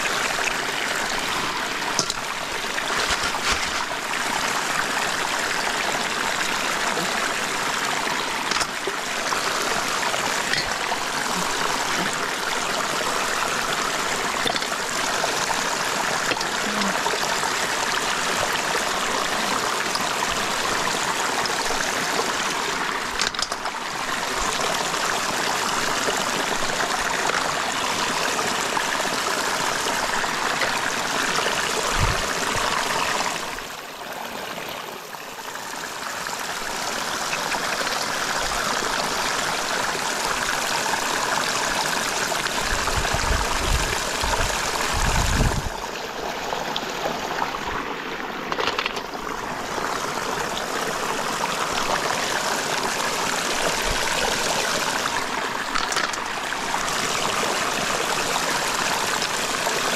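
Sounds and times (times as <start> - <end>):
water rushing in a canal: 0.0 - 59.9.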